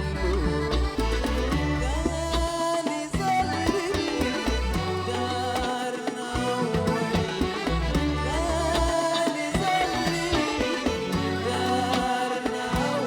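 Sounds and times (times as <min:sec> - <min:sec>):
bass line: 0:00.0 - 0:02.6, 0:03.2 - 0:05.7, 0:06.4 - 0:12.1
hand percussion: 0:00.0 - 0:13.0.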